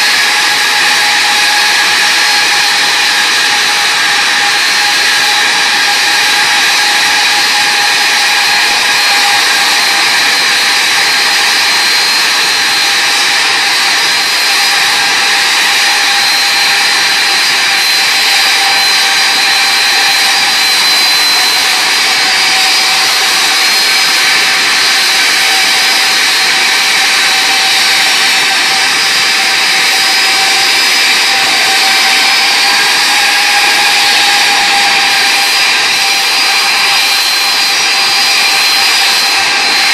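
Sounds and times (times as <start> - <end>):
high jet engine whine: 0.0 - 39.9
jet engine rushing: 0.0 - 39.9.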